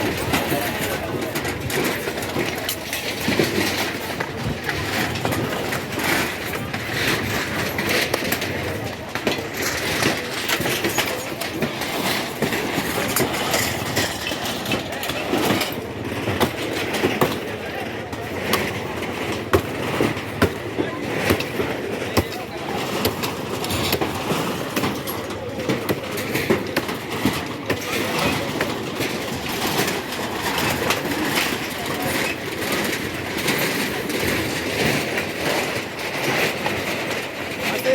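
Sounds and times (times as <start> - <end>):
clanks and knocks: 0.0 - 37.9
demolition machinery rumbling: 0.0 - 37.9.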